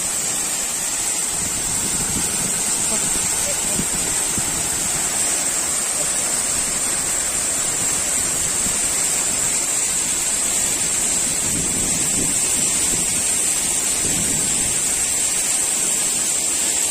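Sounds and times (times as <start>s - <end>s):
high hiss: 0.0s - 16.9s
waterfall rushing: 0.0s - 16.9s.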